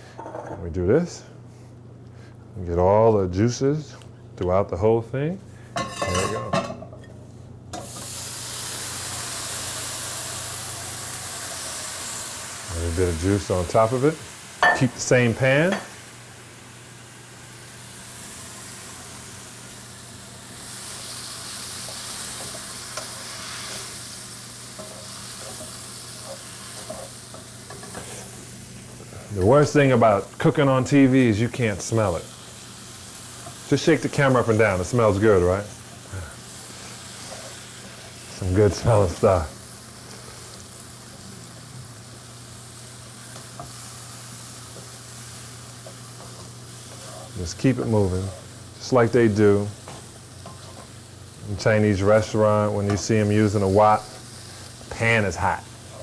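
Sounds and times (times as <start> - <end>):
food sizzling in a hot pan: 7.8 - 56.0.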